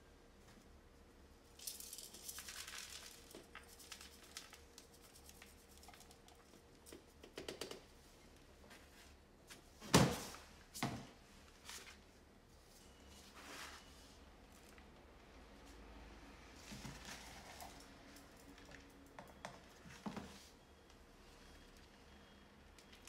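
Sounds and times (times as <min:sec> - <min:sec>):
rustling and crinkling of a plant: 0:01.4 - 0:06.7, 0:08.0 - 0:22.2.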